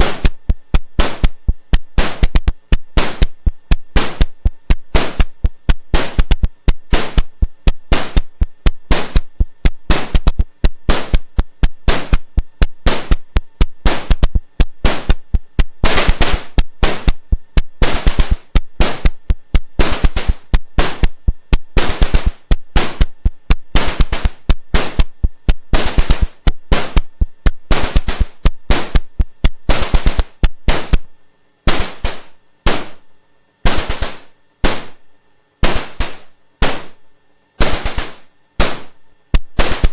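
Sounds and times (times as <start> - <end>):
rhythmic noise percussion hits: 0.0 - 31.1, 31.7 - 33.0, 33.6 - 35.0, 35.6 - 37.0, 37.6 - 39.9.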